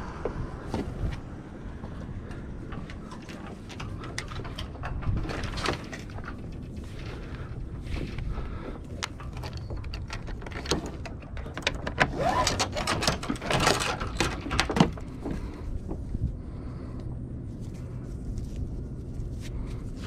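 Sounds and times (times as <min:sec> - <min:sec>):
rope rubbing and rattling: 0:00.6 - 0:20.0.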